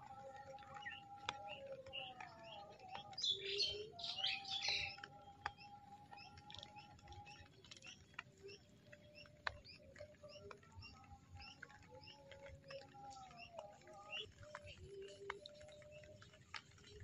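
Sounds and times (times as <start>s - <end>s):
small birds chirping: 0.1s - 17.0s.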